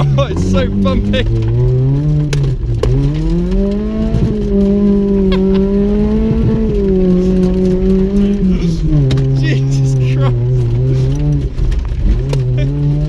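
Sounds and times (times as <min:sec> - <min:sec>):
car engine revving: 0:00.0 - 0:13.0
car knocks and rattles: 0:00.0 - 0:13.0.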